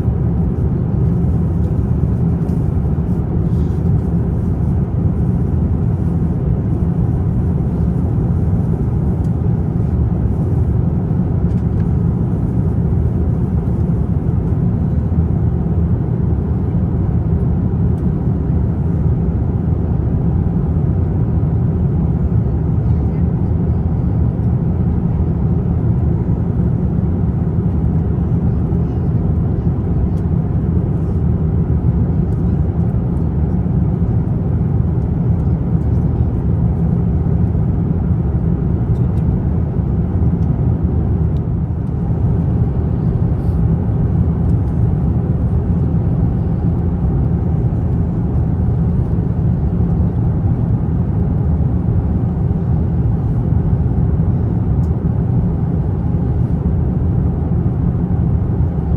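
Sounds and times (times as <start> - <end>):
airliner cabin engine and airflow rumble: 0.0 - 58.9.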